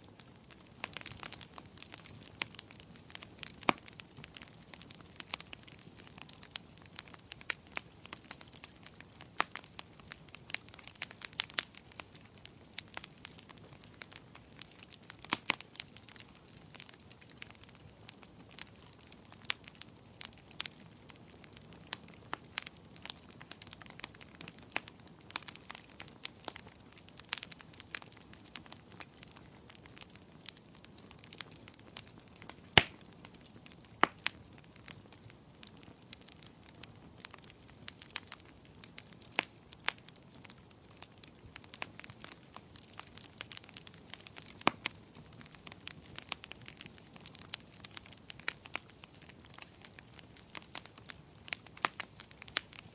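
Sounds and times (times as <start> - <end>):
soft hiss of fire: 0.0 - 52.9
wood fire crackling: 0.0 - 52.9.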